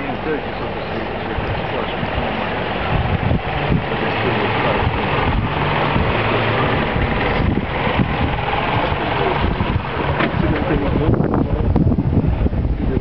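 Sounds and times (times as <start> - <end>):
low hum: 0.0 - 13.0
strong wind buffeting microphone: 0.0 - 13.0.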